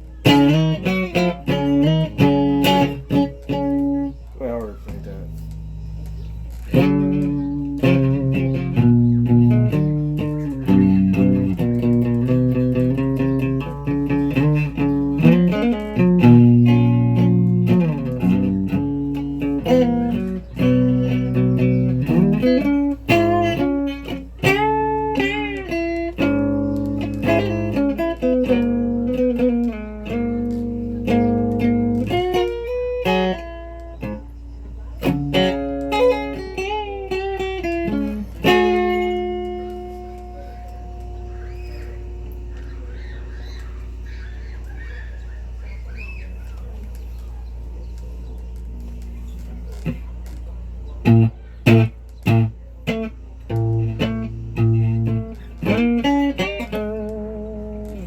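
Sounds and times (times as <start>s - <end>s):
guitar notes and chords: 0.0s - 58.0s
steady low hum: 0.0s - 58.0s.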